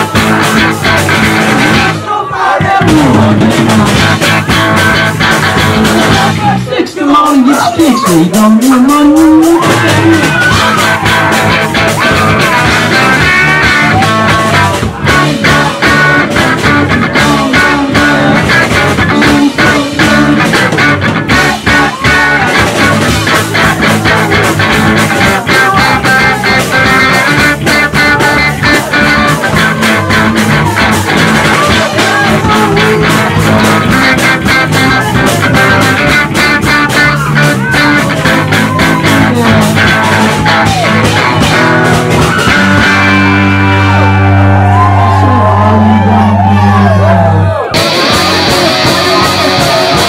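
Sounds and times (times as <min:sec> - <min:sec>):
live rock band playing: 0:00.0 - 0:50.0.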